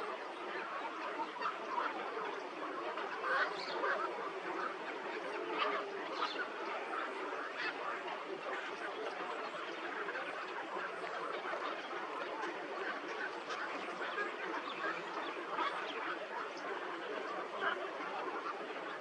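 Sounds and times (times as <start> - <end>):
flock of birds chattering: 0.0 - 19.0.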